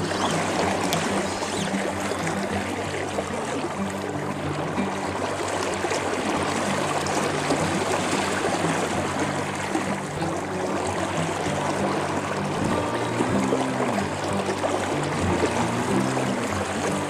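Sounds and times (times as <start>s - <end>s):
fast river rushing: 0.0s - 17.0s.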